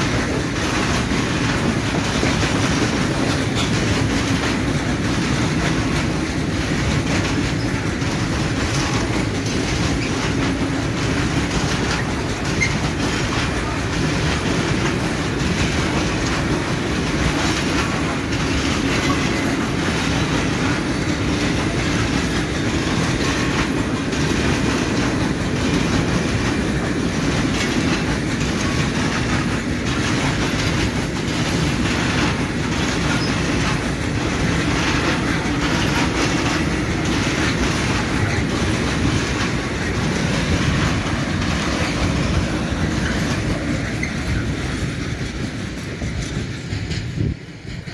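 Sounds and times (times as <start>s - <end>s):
clickety-clack of wheels on rail joints: 0.0s - 47.9s
freight train rolling past: 0.0s - 47.9s.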